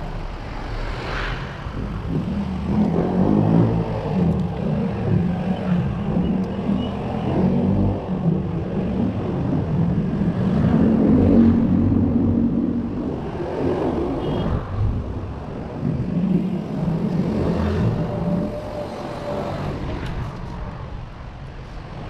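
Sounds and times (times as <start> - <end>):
motor vehicle engines running: 0.0 - 22.0.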